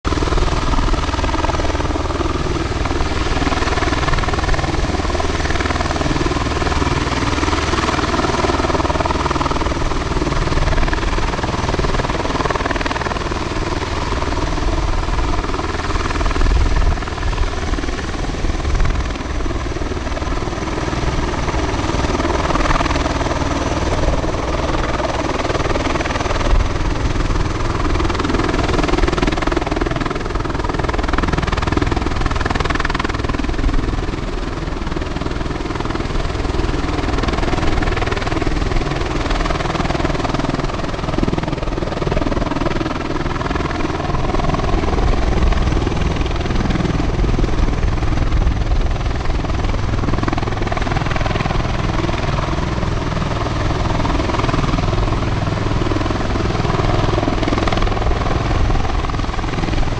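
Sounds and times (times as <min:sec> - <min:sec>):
rotor drone: 0:00.0 - 0:59.9
turboshaft engine whine: 0:00.1 - 0:59.9.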